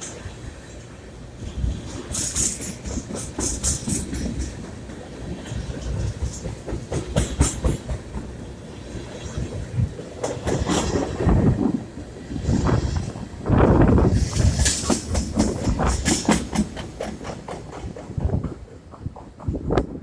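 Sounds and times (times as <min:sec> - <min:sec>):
train low rumble: 0:00.0 - 0:20.0
train wheels clicking over rail joints: 0:00.0 - 0:20.0.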